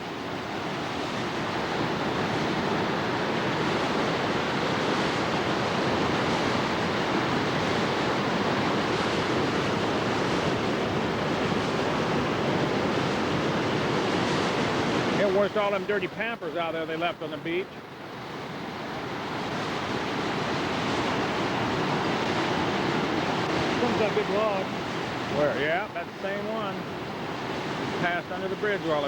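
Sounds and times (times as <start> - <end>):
river floodwater rushing: 0.0 - 29.0.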